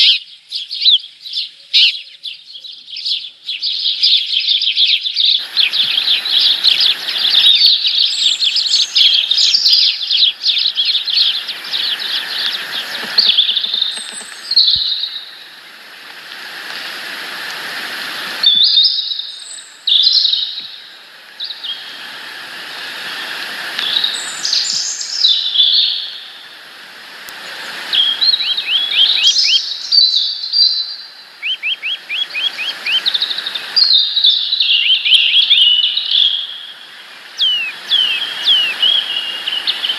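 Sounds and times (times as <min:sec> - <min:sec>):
small birds chirping: 0:00.0 - 0:15.8, 0:18.4 - 0:22.2, 0:23.0 - 0:26.4, 0:27.3 - 0:39.9.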